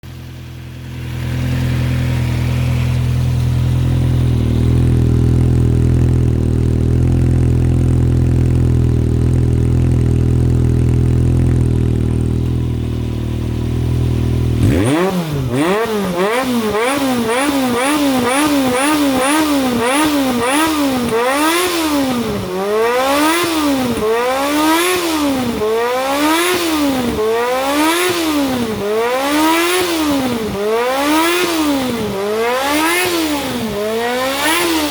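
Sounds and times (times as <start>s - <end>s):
motorcycle engine idling: 0.0s - 34.9s
motorcycle throttle blips: 0.0s - 34.9s.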